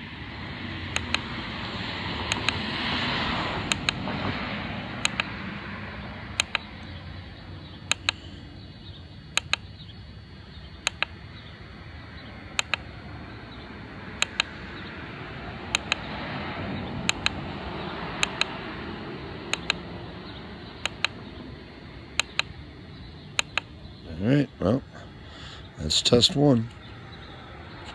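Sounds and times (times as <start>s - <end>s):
rushing background noise: 0.0s - 27.9s.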